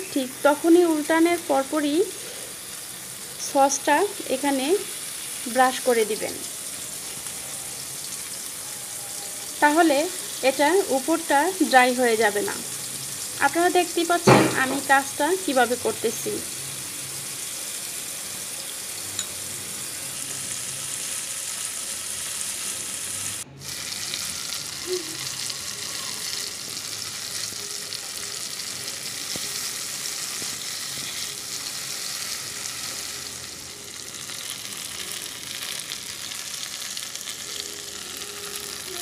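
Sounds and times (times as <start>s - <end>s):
meat sizzling in a frying pan: 0.0s - 39.0s.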